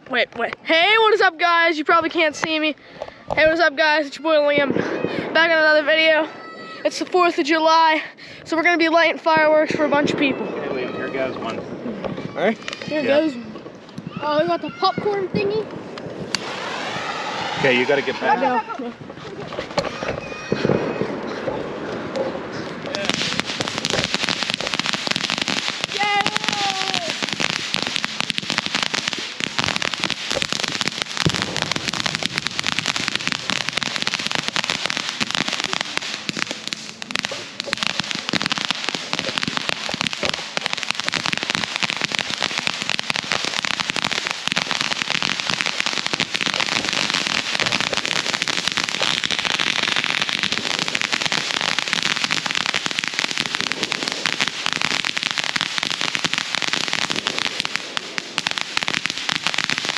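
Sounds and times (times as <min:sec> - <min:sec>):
firework fountain crackling: 0:00.0 - 0:59.9.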